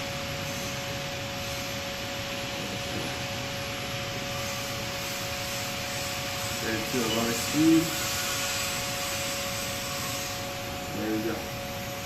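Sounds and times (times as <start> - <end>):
machine-shop hum and hiss: 0.0 - 12.0.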